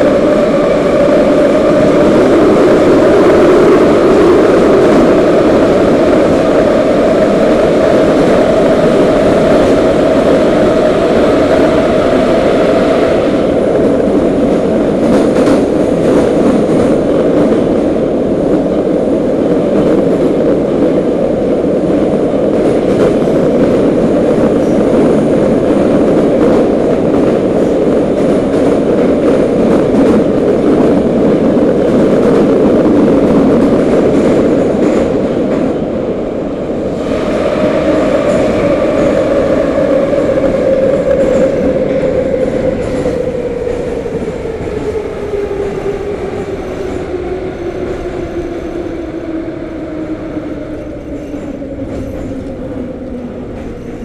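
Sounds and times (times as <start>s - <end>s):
train rumbling through tunnel: 0.0s - 54.0s.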